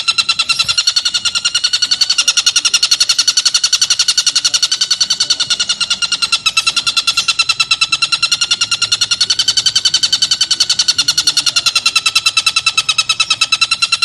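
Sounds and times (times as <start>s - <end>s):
bird chattering call: 0.0s - 14.0s.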